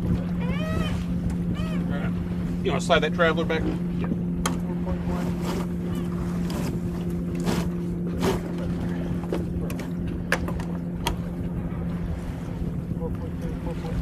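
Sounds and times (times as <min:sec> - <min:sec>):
low hum: 0:00.0 - 0:14.0
wind and water wash: 0:00.0 - 0:14.0.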